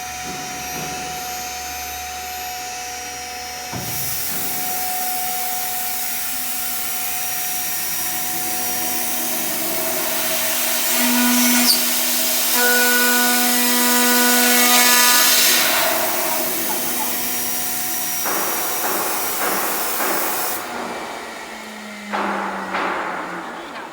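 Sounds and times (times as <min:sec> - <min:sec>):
milling machine spindle whine: 0:03.4 - 0:23.9
loud machining hiss: 0:03.8 - 0:23.9.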